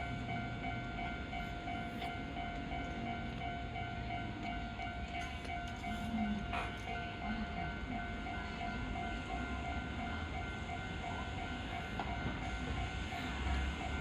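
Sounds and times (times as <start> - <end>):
level crossing warning bell: 0.0 - 14.0
passing train rumble: 0.0 - 14.0.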